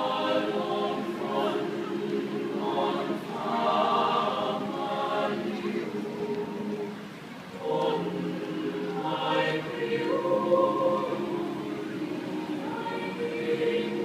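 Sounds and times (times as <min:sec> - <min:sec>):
choir singing a cappella: 0:00.0 - 0:14.0.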